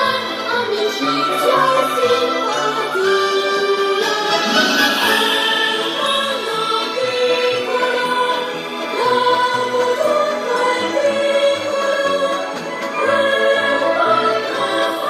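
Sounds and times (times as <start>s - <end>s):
choral music through small speaker: 0.0s - 15.0s.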